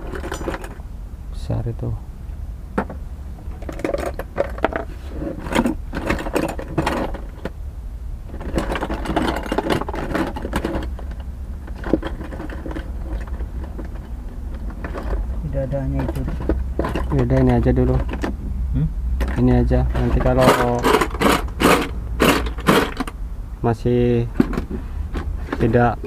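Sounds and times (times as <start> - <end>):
small hard parts rattling: 0.0 - 0.8, 2.8 - 7.6, 8.3 - 18.4, 19.2 - 23.2, 24.2 - 26.0
steady low hum: 0.0 - 26.0.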